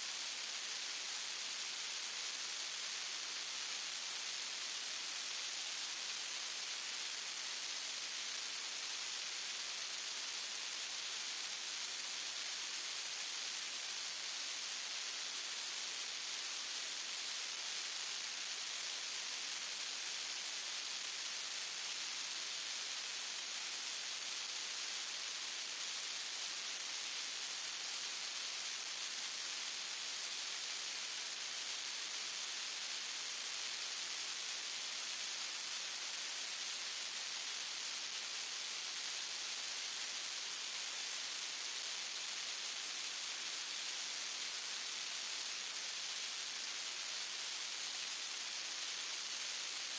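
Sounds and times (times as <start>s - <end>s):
steady static hiss: 0.0s - 49.9s.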